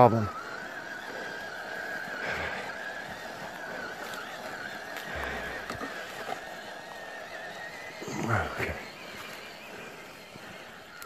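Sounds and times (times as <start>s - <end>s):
rc truck motor whining: 0.0s - 11.0s.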